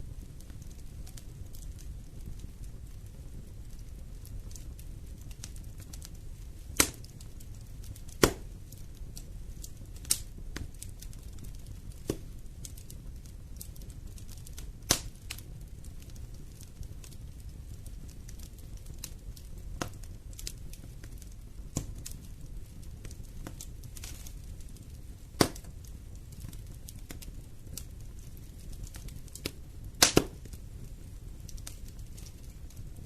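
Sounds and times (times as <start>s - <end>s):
fire crackling: 0.0s - 33.0s
fire popping: 0.0s - 33.0s
fire rumbling: 0.0s - 33.0s.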